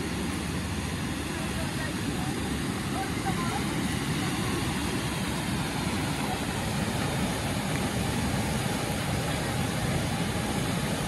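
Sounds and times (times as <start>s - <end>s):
floodwater rushing over weir: 0.0s - 11.0s.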